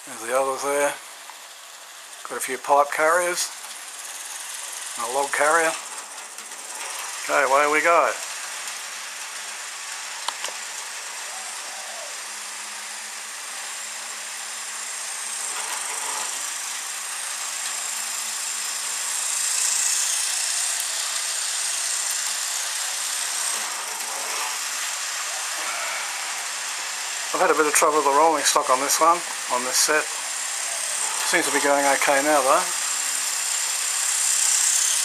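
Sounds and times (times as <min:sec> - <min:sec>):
model train whirring on track: 0:00.0 - 0:35.0.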